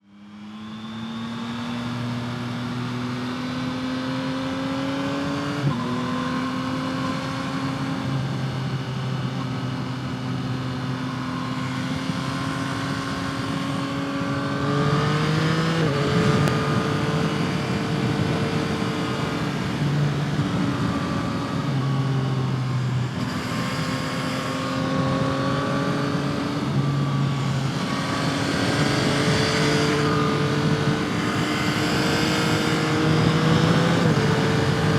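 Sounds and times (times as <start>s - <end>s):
motorcycle engine running: 1.7s - 34.9s.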